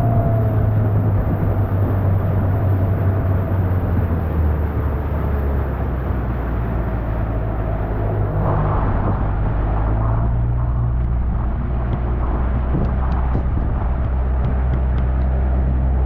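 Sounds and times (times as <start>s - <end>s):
outboard motor running: 0.0s - 9.8s, 10.4s - 16.0s
rushing wind: 0.0s - 16.0s
water noise: 0.0s - 16.0s.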